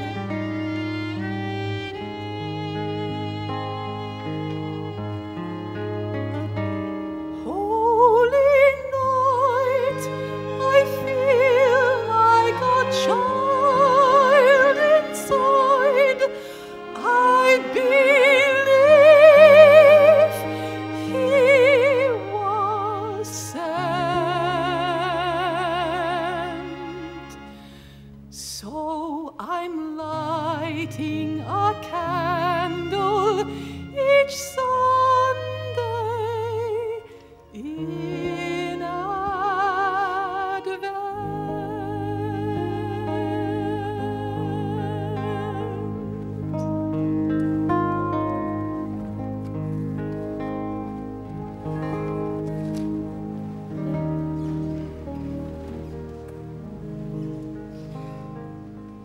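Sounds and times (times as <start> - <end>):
orchestral accompaniment: 0.0 - 28.0, 30.2 - 59.0
soprano singing classical song: 0.0 - 59.0.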